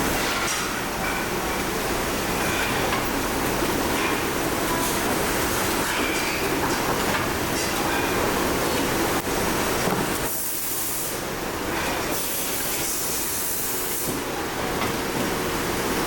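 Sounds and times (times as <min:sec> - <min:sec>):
workshop machinery noise: 0:00.0 - 0:16.0.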